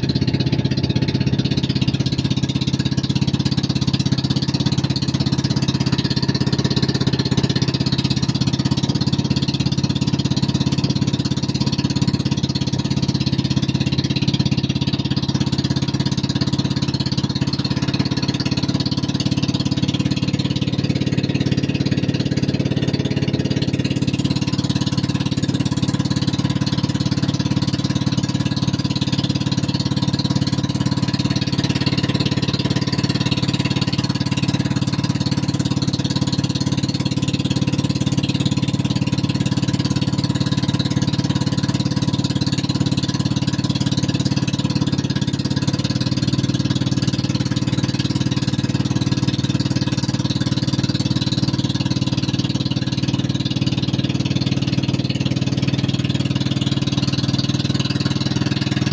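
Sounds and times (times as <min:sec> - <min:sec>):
boat engine chugging: 0:00.0 - 0:58.9.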